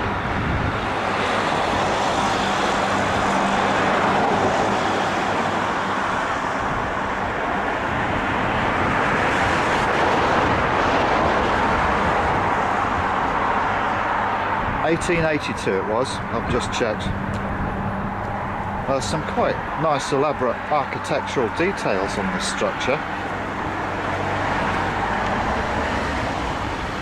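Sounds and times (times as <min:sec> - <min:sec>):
low engine hum: 0:00.0 - 0:27.0
road traffic passing: 0:00.0 - 0:27.0.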